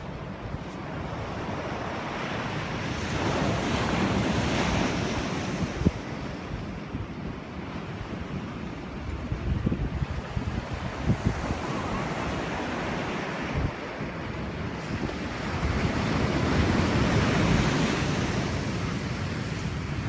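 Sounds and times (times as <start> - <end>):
sea waves breaking: 0.0 - 20.0
wind buffeting microphone: 0.0 - 20.0.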